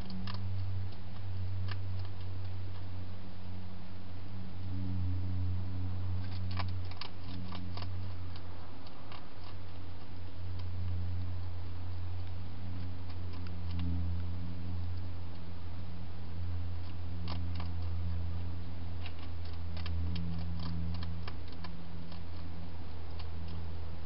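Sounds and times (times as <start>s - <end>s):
hedgehog crunching food: 0.0s - 3.6s, 4.6s - 24.0s
steady low hum: 0.0s - 24.0s.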